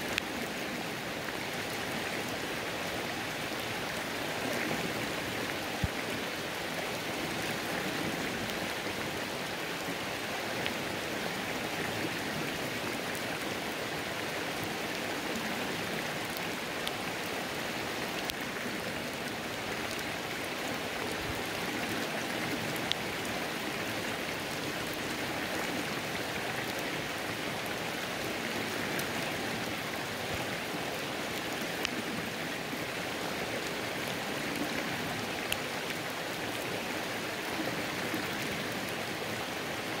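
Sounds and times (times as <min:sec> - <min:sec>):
flowing water and rain: 0:00.0 - 0:40.0.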